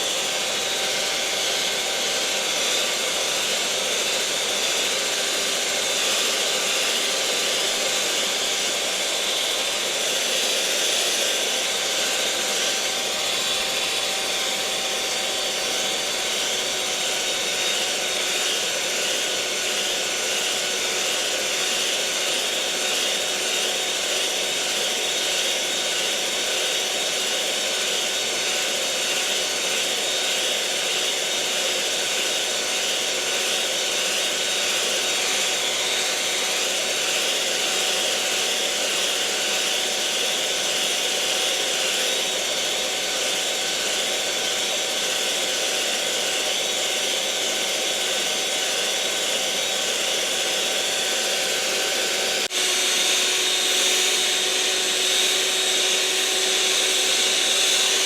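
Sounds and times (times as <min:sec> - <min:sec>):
electric kitchen mixer running: 0:00.0 - 0:58.0.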